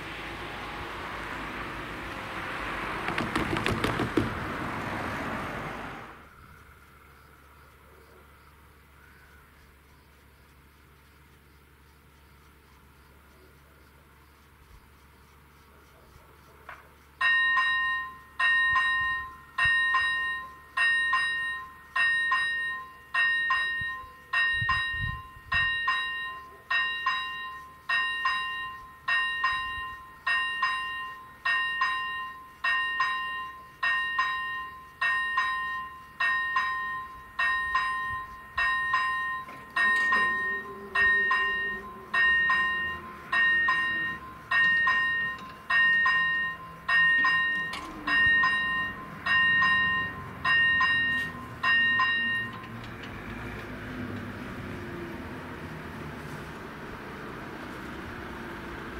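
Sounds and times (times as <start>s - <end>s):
level crossing warning bell: 0.0s - 2.8s, 6.2s - 58.9s.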